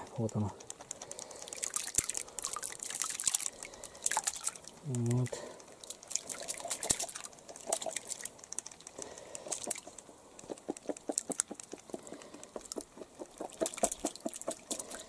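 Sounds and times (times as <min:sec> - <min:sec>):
light watery hiss: 0:00.4 - 0:15.0
fish splashing at water surface: 0:00.6 - 0:15.0.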